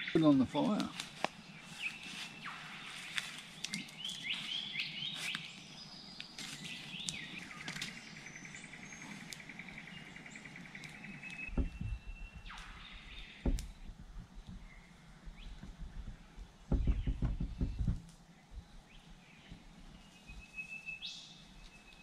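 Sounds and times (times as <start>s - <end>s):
birds chirping and trilling: 0.0s - 22.0s
campfire crackling: 0.0s - 22.0s.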